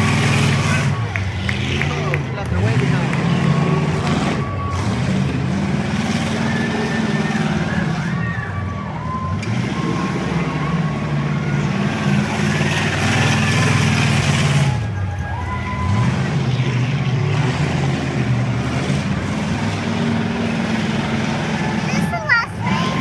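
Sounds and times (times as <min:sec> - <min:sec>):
race car engines revving: 0:00.0 - 0:23.0.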